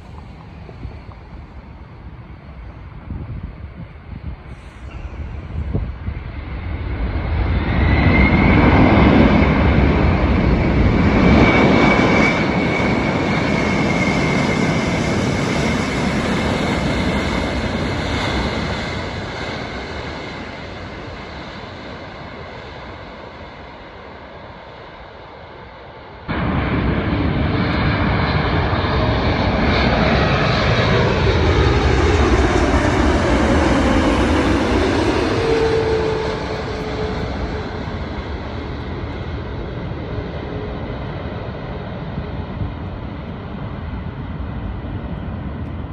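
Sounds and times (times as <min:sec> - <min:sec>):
jet airliner passing: 0:00.0 - 0:45.9.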